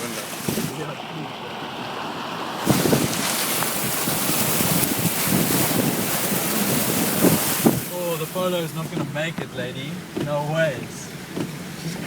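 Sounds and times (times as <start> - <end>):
floodwater rushing: 0.0 - 12.0
wind buffeting microphone: 0.4 - 0.8, 2.1 - 11.8.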